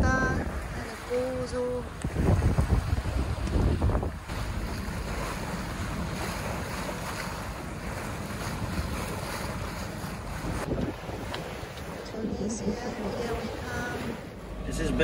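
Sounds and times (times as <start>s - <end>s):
water rushing along hull: 0.0s - 15.0s
wind buffeting microphone: 0.0s - 15.0s
wind over deck: 0.0s - 15.0s.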